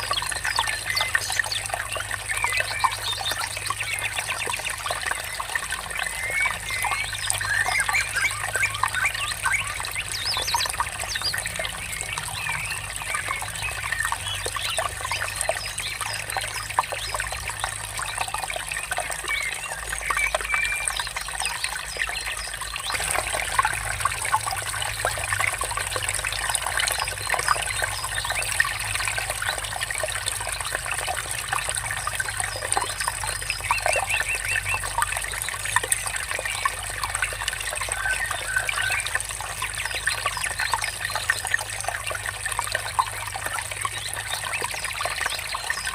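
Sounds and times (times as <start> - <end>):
water trickling: 0.0 - 45.9.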